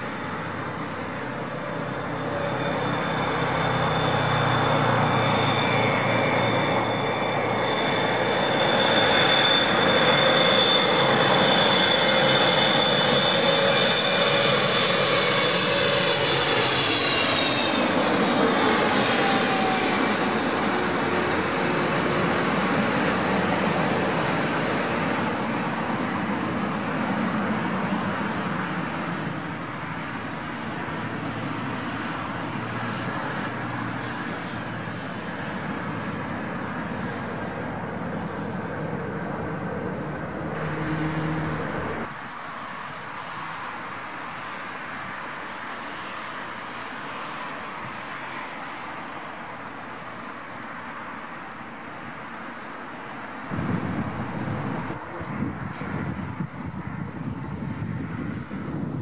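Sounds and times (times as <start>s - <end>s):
jet engine landing rush: 0.0s - 59.0s.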